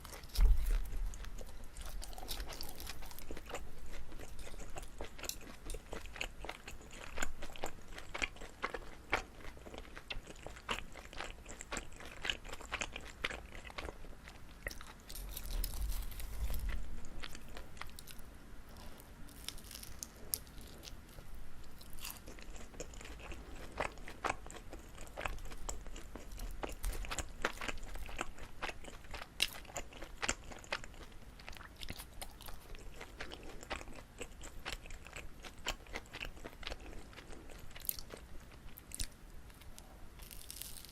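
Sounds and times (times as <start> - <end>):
chewing sticky rice cake: 0.0 - 40.9.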